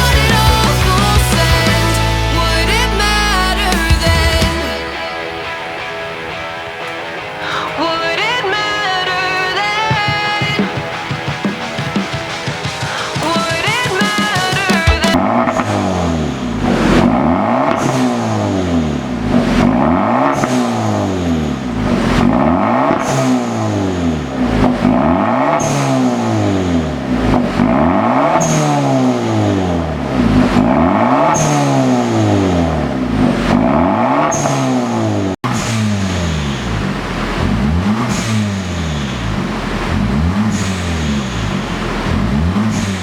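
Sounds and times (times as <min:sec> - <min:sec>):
car engine revving: 0:07.5 - 0:43.0.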